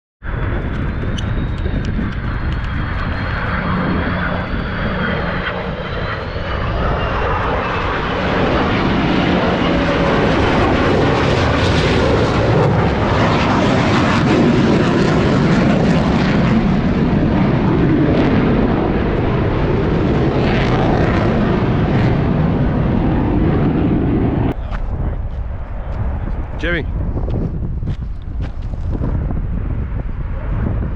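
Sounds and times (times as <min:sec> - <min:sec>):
military jets flying past: 0:00.2 - 0:30.9.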